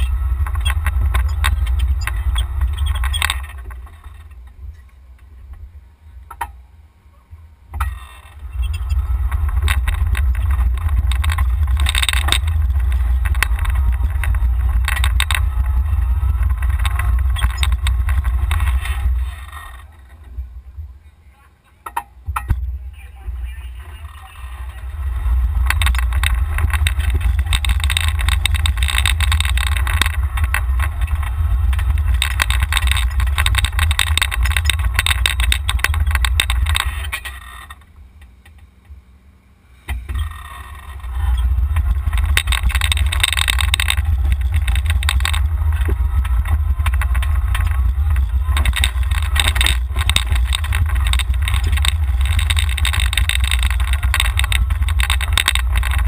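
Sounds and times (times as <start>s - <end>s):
wind and motion rumble: 0.0s - 21.3s, 22.1s - 56.0s
rattling and road noise: 0.0s - 56.0s.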